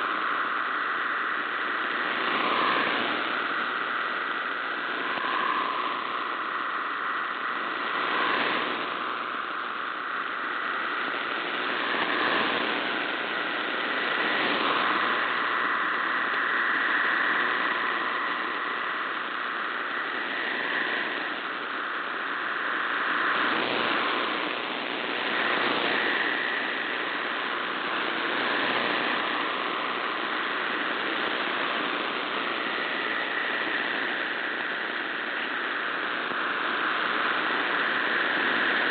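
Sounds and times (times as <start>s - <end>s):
digital radio data tones: 0.0s - 38.9s
radio hiss and static: 0.0s - 38.9s.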